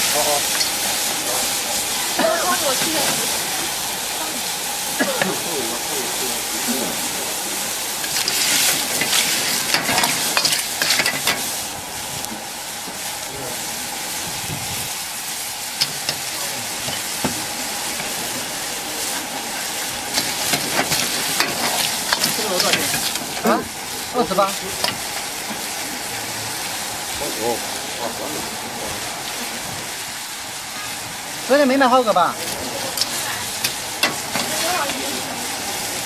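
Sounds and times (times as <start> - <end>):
food sizzling in a wok: 0.0 - 36.0.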